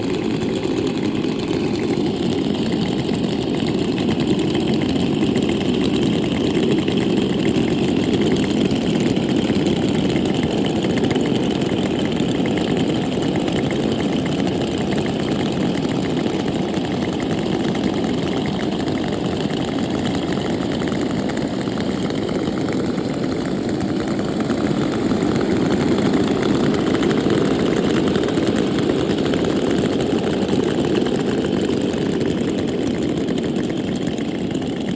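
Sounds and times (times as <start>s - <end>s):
chainsaw engine idling: 0.0s - 34.9s.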